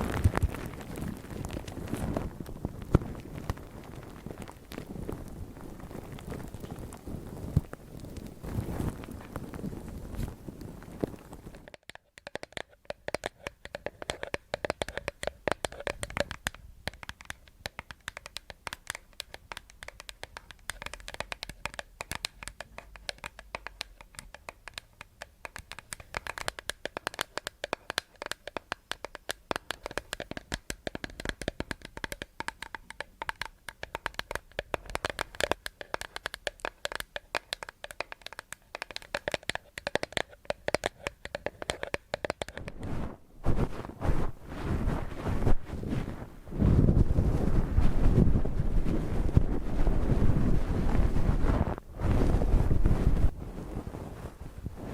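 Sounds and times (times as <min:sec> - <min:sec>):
tapping and scratching on hard object: 0:00.1 - 0:46.2.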